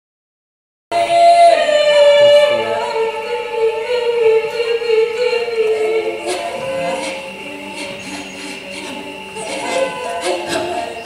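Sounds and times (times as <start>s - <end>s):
wordless woman singing: 0.9s - 11.0s.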